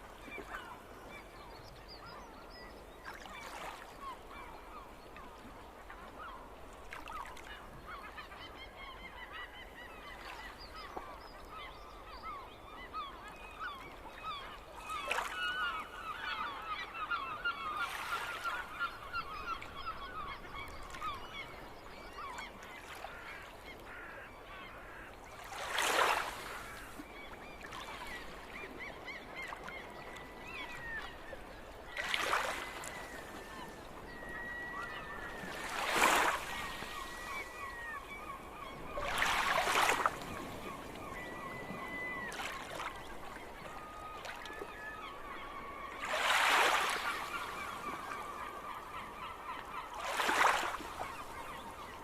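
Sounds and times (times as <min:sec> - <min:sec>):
gulls calling: 0:07.1 - 0:52.0.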